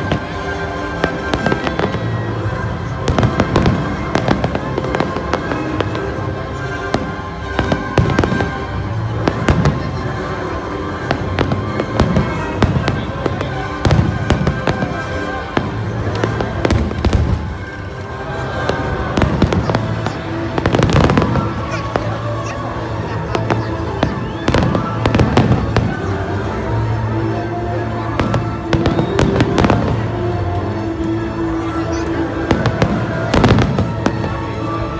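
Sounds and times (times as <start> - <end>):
fireworks bangs and crackles: 0.0 - 34.9
loud background music: 0.0 - 34.9.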